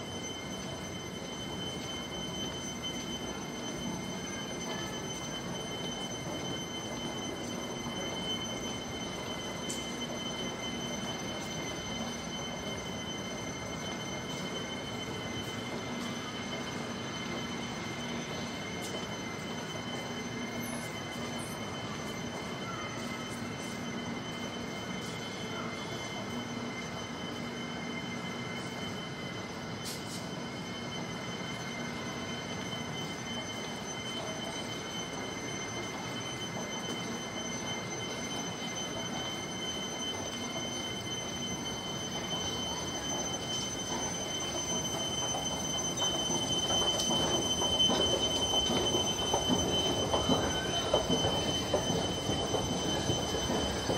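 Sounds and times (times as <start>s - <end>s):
high whining tones: 0.0s - 53.9s
train hum: 0.0s - 53.9s.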